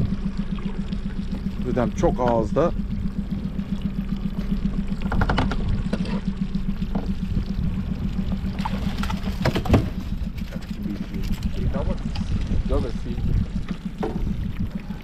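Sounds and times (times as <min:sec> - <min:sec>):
outboard motor idling: 0:00.0 - 0:15.0
fish thrashing and splashing water: 0:00.1 - 0:15.0.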